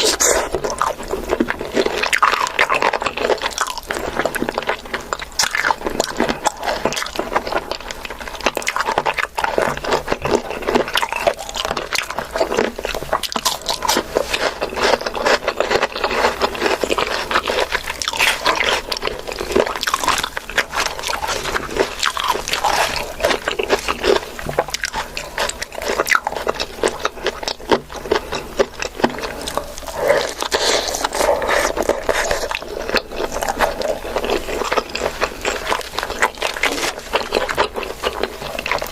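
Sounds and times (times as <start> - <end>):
wet chewing and smacking: 0.0 - 38.9.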